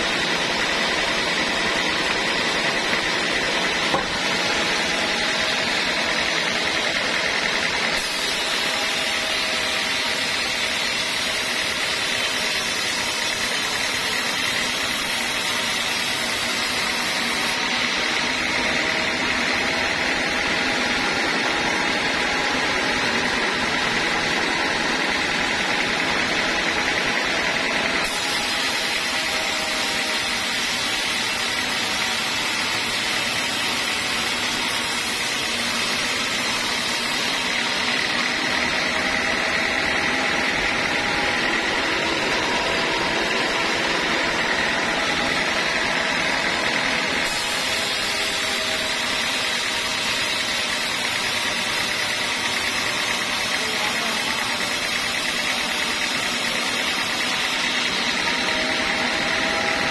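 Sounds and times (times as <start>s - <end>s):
band saw cutting wood: 0.0s - 59.9s.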